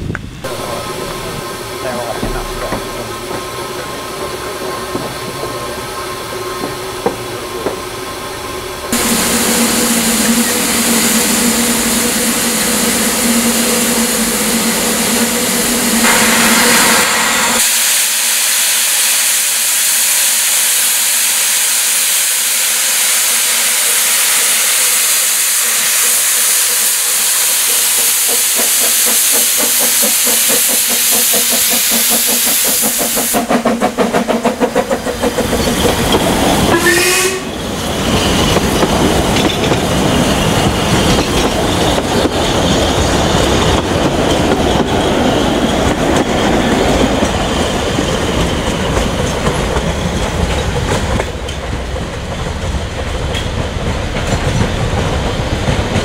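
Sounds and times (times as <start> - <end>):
steam locomotive hissing: 0.3 - 56.0.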